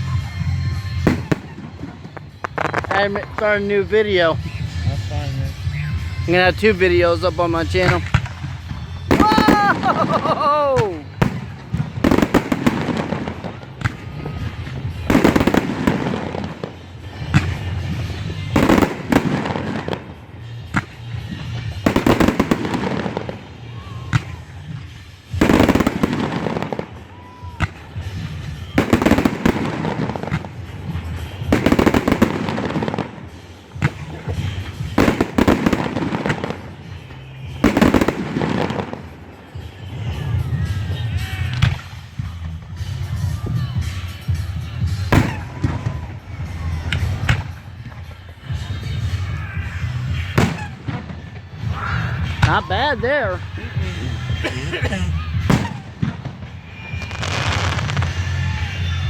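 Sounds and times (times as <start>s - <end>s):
fireworks booming: 0.0s - 59.0s
fireworks crackling: 0.0s - 59.0s.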